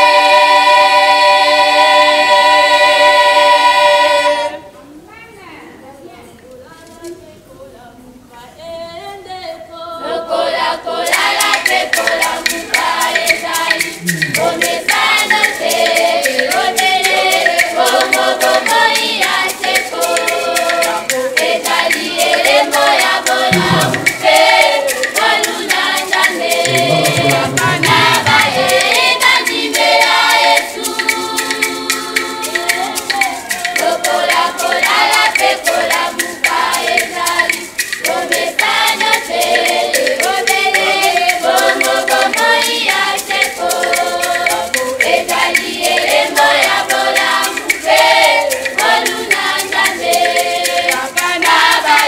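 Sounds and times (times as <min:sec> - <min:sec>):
women singing in a choir: 0:00.0 - 0:04.8, 0:06.5 - 0:52.0
maracas shaking: 0:06.0 - 0:08.2, 0:10.0 - 0:52.0.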